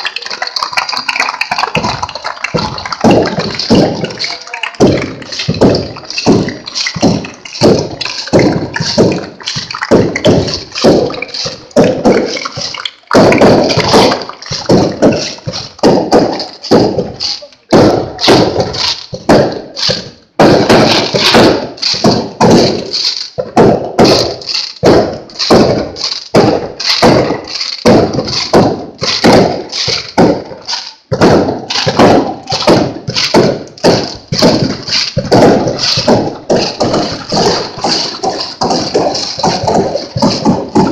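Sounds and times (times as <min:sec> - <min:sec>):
firework bangs: 0:01.7 - 0:23.0, 0:23.6 - 0:40.9.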